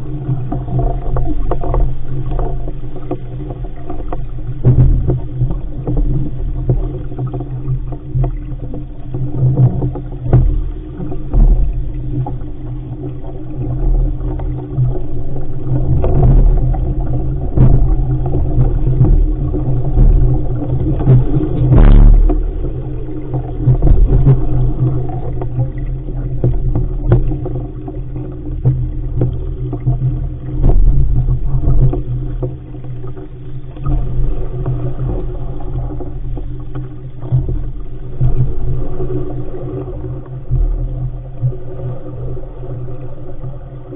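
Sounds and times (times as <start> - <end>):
water rushing past hull: 0.0 - 43.9
waves knocking on hull: 0.0 - 43.9.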